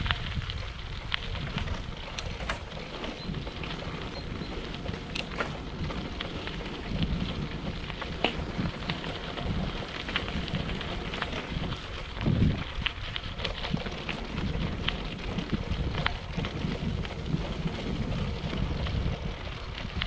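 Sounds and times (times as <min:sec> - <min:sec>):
small clicks and crackles: 0:00.0 - 0:20.0
wind buffeting microphone: 0:00.0 - 0:20.0.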